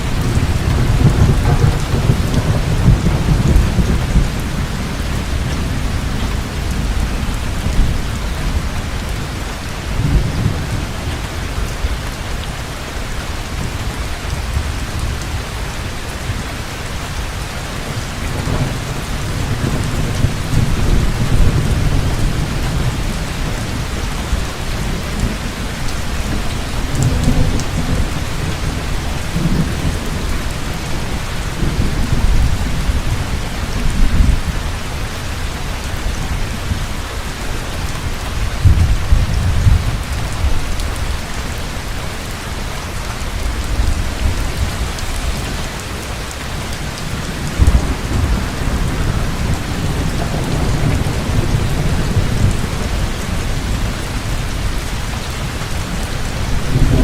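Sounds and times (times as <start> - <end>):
heavy rain falling: 0.0 - 57.0
low thunder rumbling: 0.0 - 57.0.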